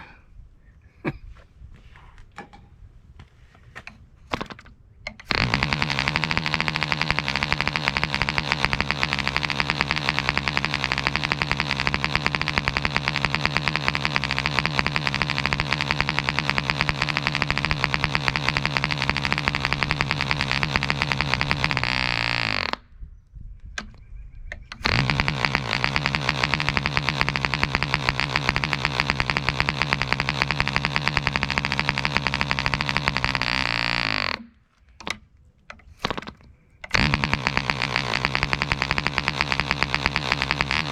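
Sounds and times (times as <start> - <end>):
model airplane engine running: 4.3 - 22.9, 24.6 - 35.2, 35.9 - 40.9.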